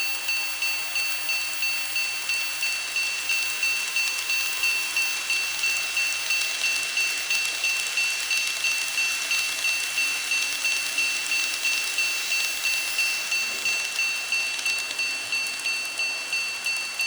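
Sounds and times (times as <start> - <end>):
level crossing warning bell: 0.0 - 17.0
steady hiss: 0.9 - 17.0.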